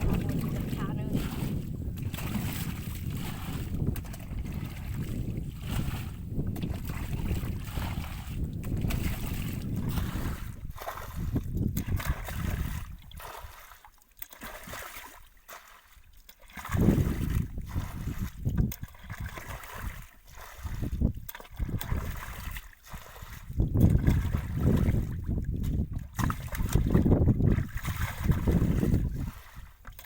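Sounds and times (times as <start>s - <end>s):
muddy water sloshing and splashing: 0.0s - 30.0s.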